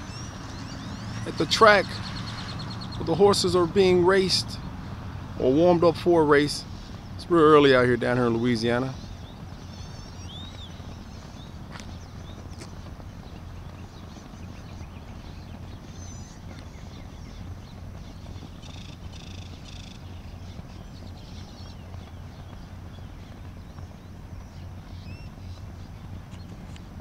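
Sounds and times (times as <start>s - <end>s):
birds chirping: 0.0s - 27.0s
steady low rumble: 0.0s - 27.0s.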